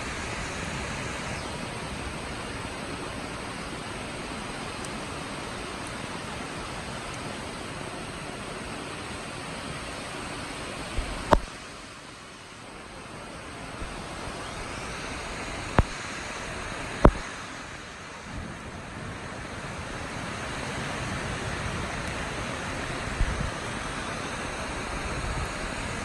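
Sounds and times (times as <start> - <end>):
wind rushing through trees: 0.0 - 26.0.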